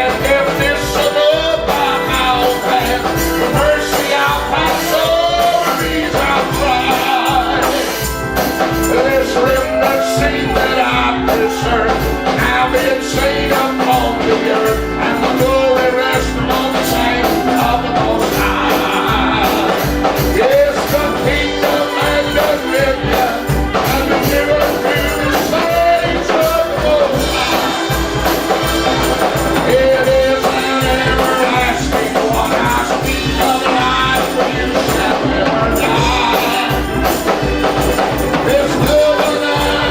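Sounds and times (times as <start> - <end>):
band with steady beat: 0.0 - 39.9
people singing: 0.0 - 39.9
tambourine: 0.0 - 39.9.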